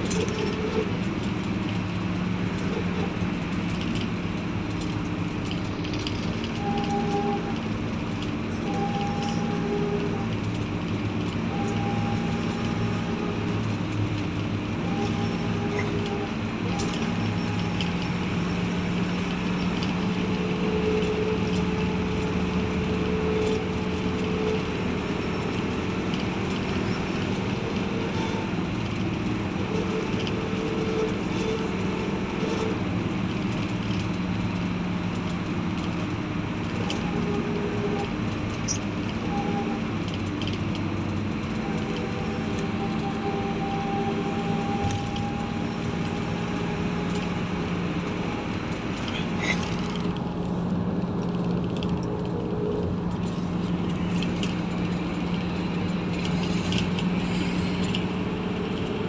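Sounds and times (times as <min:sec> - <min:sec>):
road noise: 0:00.0 - 0:59.0
vehicle engines running: 0:00.0 - 0:59.0.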